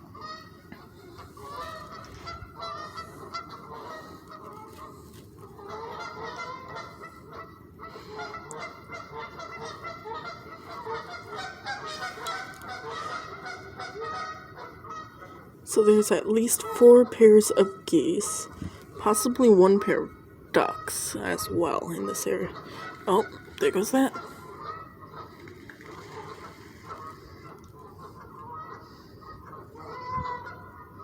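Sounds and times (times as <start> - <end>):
geese honking: 0.0 - 31.0.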